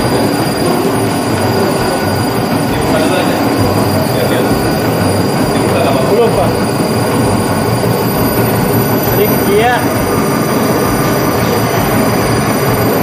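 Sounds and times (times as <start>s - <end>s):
extruder mechanical noise: 0.0s - 13.0s
thin high whine: 0.0s - 13.0s.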